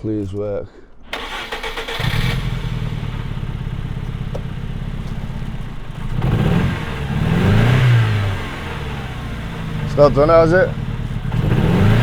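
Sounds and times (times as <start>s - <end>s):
car engine idling and revving: 1.1s - 12.0s.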